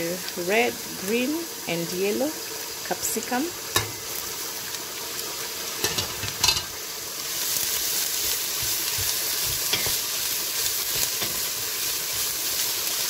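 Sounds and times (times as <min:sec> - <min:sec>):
peppers sizzling in hot oil: 0:00.0 - 0:13.0.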